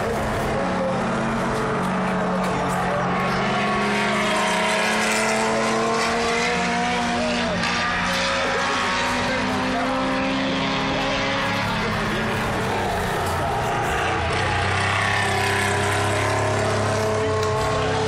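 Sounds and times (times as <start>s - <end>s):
race cars passing by: 0.0s - 18.0s.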